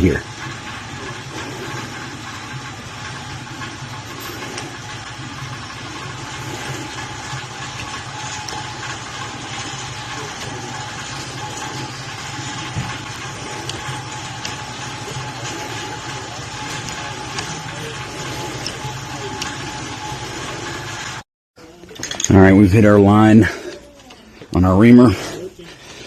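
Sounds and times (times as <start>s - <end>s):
machine hum with thin tone: 0.0s - 26.0s.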